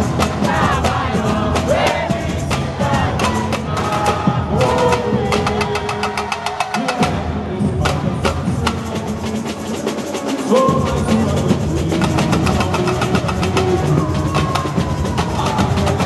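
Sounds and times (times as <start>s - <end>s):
bass drums beating: 0.0s - 9.5s, 10.5s - 16.0s
people singing through microphones: 0.0s - 16.0s
snare drums beating: 0.0s - 16.0s.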